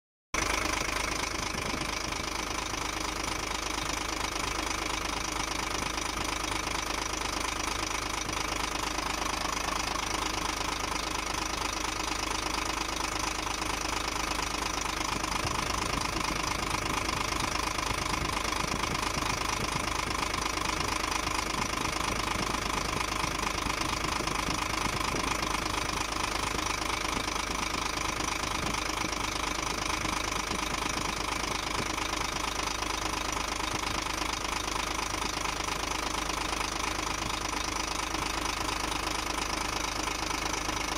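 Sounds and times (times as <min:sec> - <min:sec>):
diesel engine idling with knock: 0:00.4 - 0:40.9.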